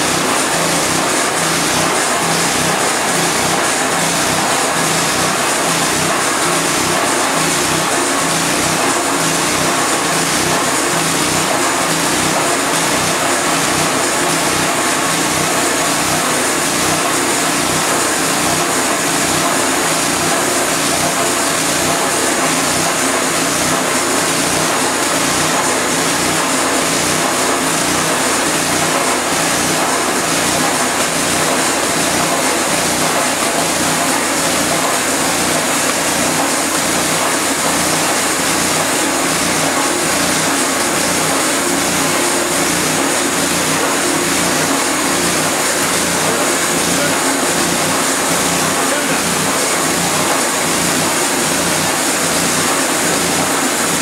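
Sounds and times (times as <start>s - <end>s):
band sawmill cutting timber: 0.0s - 54.0s.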